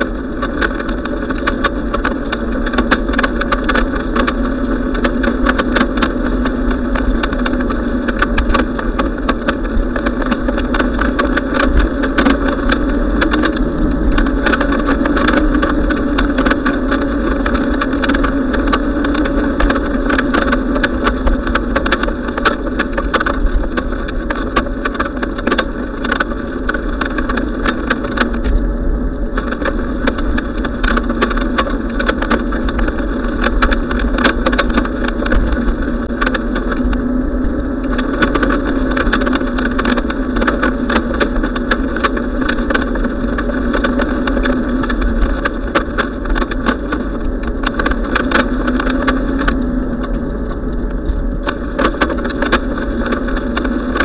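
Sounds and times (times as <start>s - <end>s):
bicycle rumble and wind noise: 0.0s - 54.0s
small clicks and rattles: 0.0s - 54.0s.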